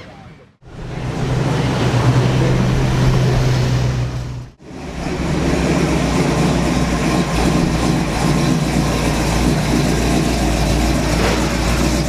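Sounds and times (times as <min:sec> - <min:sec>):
car engines running: 0:00.0 - 0:12.0
rough engine hum: 0:00.0 - 0:12.0.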